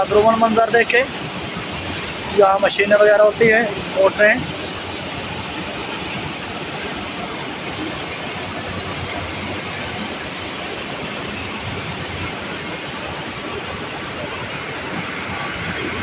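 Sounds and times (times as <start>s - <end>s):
mill machinery and motors running: 0.0s - 16.0s.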